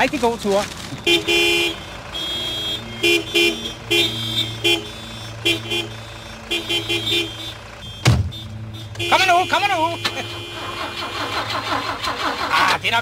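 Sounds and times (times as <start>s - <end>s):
idling engines hum: 0.0s - 13.0s
car horns honking: 0.8s - 13.0s.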